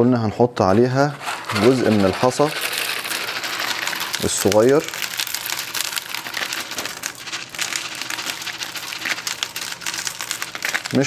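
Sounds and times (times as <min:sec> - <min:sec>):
gravel pattering onto pebbles: 0:01.3 - 0:11.0.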